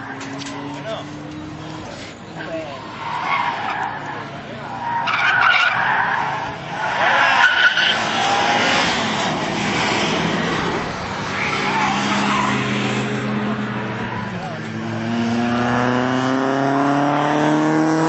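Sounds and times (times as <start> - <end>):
car tyres squealing: 0.0 - 15.7
car engine accelerating: 0.0 - 18.0.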